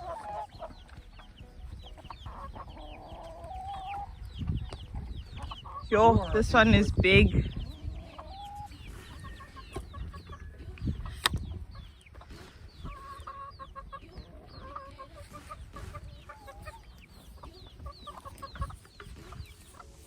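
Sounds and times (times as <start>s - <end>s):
birds chirping: 0.0s - 20.0s
chickens clucking: 0.0s - 20.0s.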